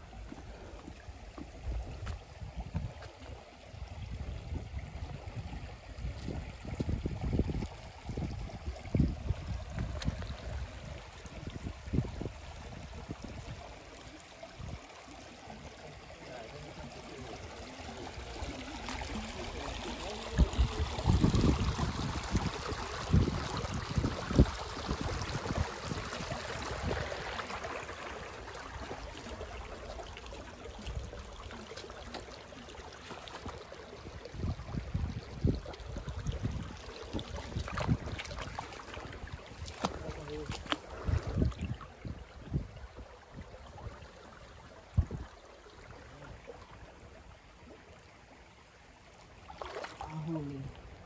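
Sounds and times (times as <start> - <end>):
stream trickling over rocks: 0.0 - 51.0.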